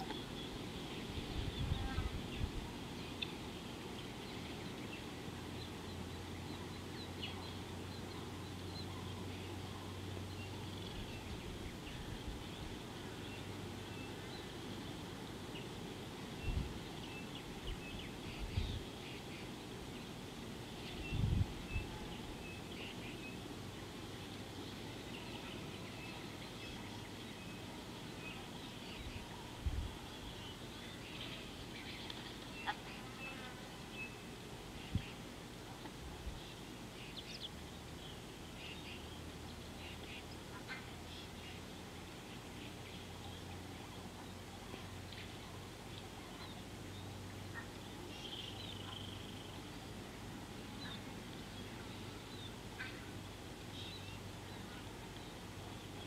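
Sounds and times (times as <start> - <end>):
outdoor background hiss: 0.0 - 56.0.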